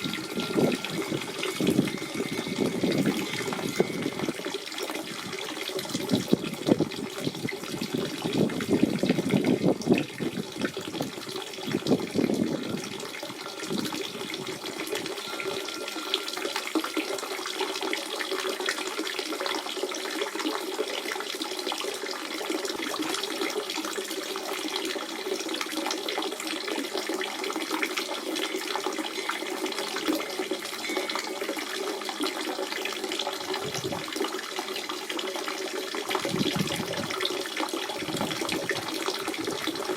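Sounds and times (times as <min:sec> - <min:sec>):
spring water running and splashing: 0:00.0 - 0:39.9.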